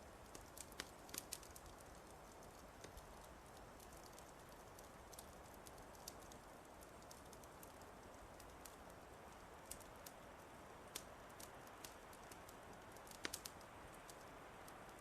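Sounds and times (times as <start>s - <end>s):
fire crackling faintly: 0.0s - 15.0s.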